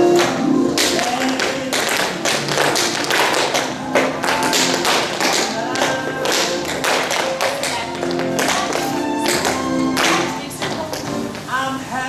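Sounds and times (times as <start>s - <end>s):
recorded song: 0.0s - 12.0s
tap shoes on wooden floor: 0.2s - 11.5s.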